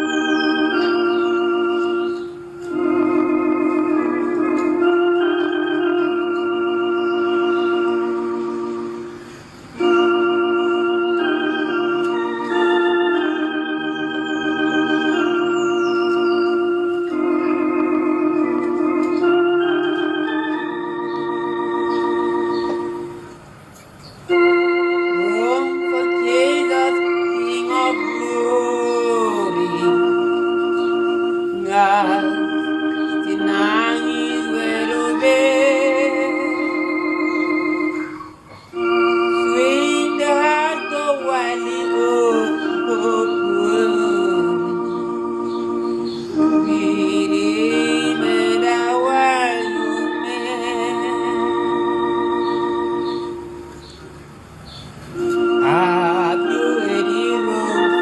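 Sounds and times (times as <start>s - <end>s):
person singing with vibrato: 0.0s - 23.4s, 24.3s - 54.4s, 55.1s - 58.0s
electronic organ chords: 0.0s - 58.0s.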